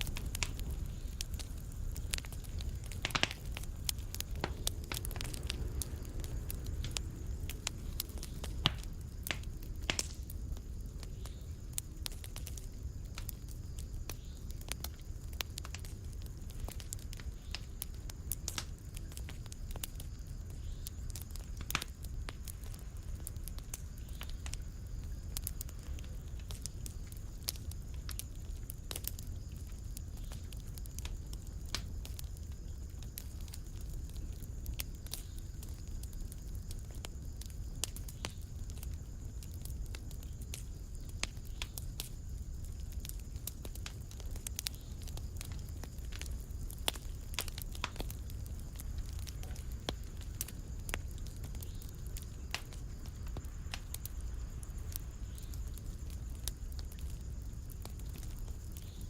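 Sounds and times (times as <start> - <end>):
low rumble of fire: 0.0 - 59.0
wood fire crackling and popping: 0.0 - 59.0.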